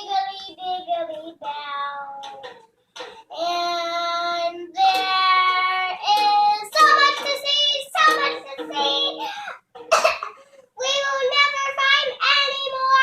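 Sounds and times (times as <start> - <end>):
girl singing: 0.0 - 10.1, 10.8 - 13.0.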